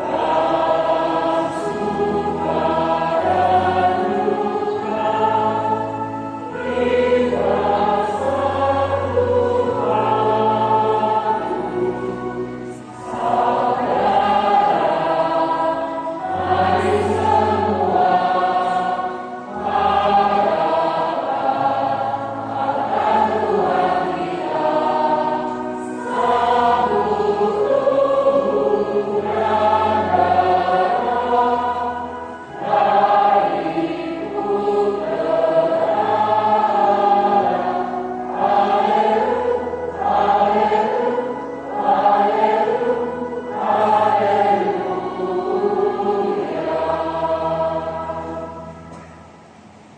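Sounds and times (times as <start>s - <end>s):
choir and congregation singing hymn: 0.0s - 49.9s.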